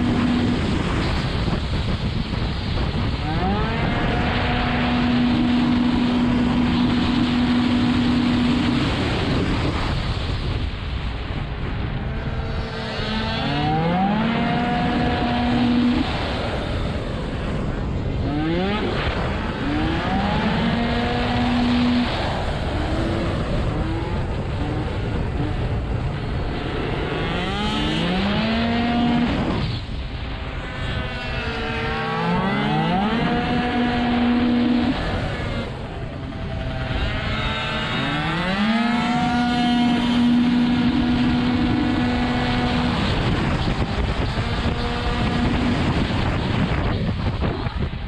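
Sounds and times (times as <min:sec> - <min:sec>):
two-stroke scooter engine revving: 0:00.0 - 0:01.4, 0:03.1 - 0:09.8, 0:12.0 - 0:17.0, 0:17.8 - 0:29.7, 0:30.3 - 0:47.7
wind and road noise: 0:00.0 - 0:48.0.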